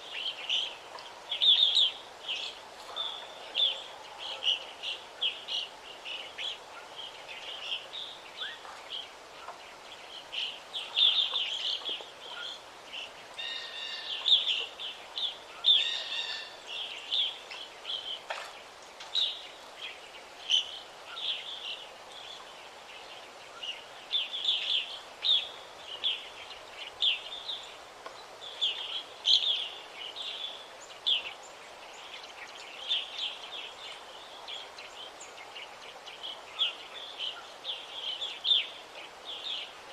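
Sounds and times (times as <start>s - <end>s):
faint steady hiss: 0.0s - 39.9s
songbirds chirping and trilling: 0.1s - 39.9s.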